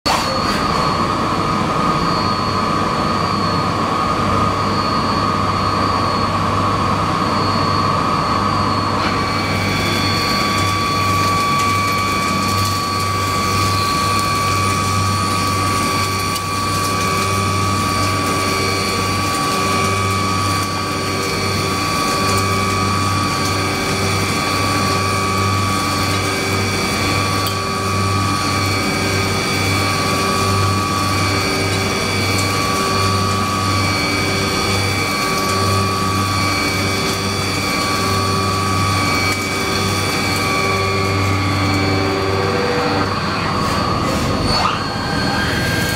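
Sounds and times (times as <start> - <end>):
high-pitched metal cutting tone: 8.5 - 45.9.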